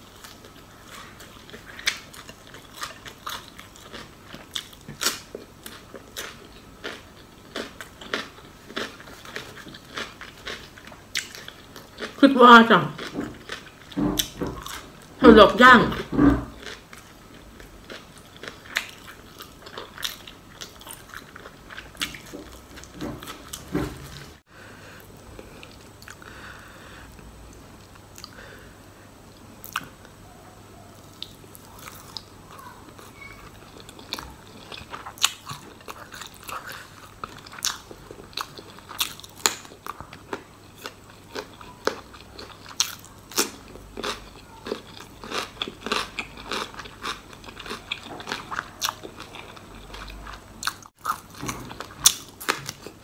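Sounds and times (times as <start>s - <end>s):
crunchy chewing: 0.1s - 12.2s, 12.9s - 15.0s, 16.0s - 24.4s, 30.9s - 53.0s.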